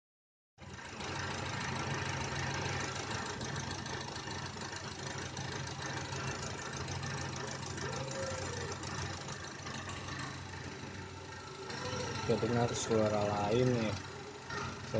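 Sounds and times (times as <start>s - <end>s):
car engine idling: 0.6s - 14.9s.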